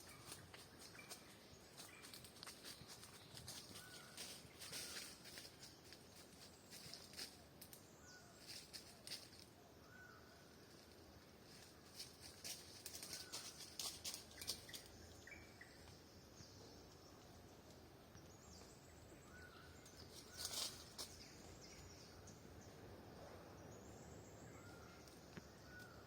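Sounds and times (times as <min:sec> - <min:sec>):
birds chirping: 0:00.0 - 0:26.0
faint outdoor background: 0:00.0 - 0:26.0.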